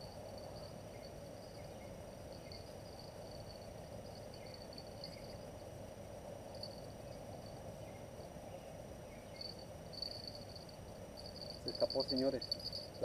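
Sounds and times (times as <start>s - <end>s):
faint high chirping: 0.0s - 5.8s, 6.4s - 13.0s
low background hum: 0.0s - 13.0s.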